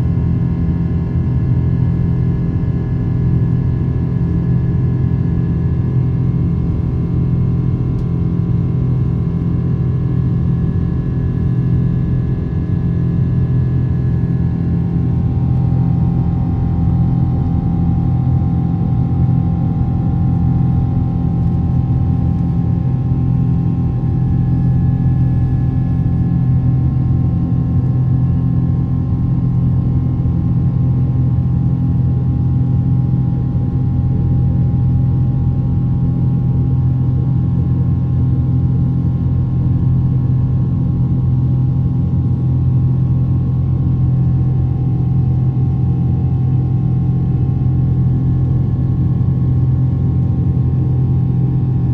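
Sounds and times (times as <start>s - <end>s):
jet engine drone in cabin: 0.0s - 51.9s.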